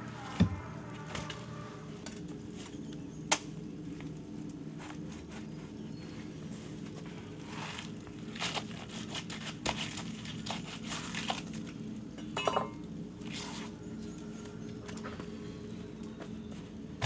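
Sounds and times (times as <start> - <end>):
crinkling and rustling of handled objects: 0.0 - 17.0.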